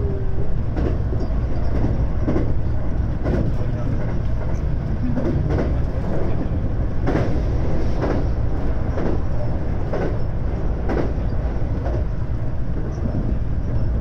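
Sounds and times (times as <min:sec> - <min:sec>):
rail joint clacks: 0:00.0 - 0:14.0
train wheels rumbling on track: 0:00.0 - 0:14.0.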